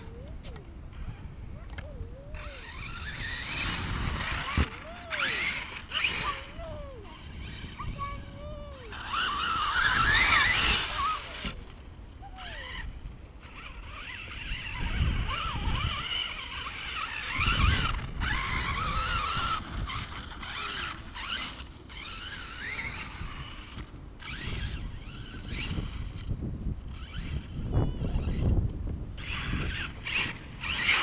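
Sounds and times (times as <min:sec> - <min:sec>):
toy truck motor whining: 0:00.0 - 0:31.0.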